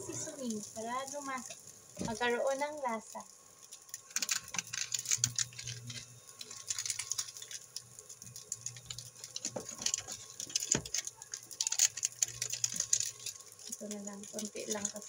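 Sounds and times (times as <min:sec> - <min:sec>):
faint steady hum: 0:00.0 - 0:15.0
plastic sachet crinkling: 0:00.0 - 0:15.0.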